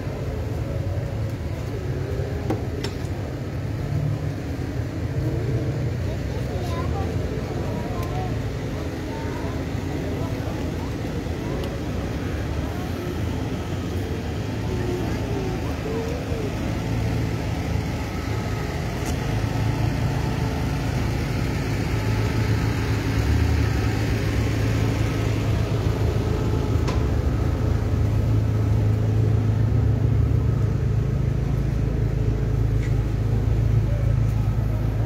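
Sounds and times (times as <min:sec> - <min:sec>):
vehicle engine idling: 0:00.0 - 0:35.0.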